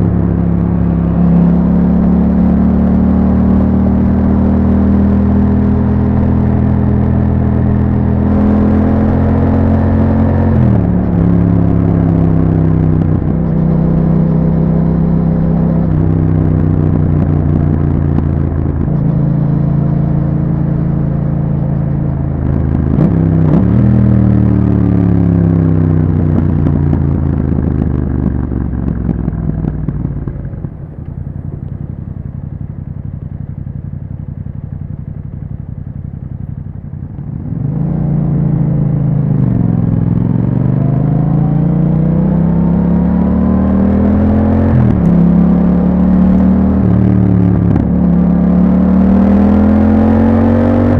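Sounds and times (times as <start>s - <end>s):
motorcycle engine while riding: 0.0s - 50.9s.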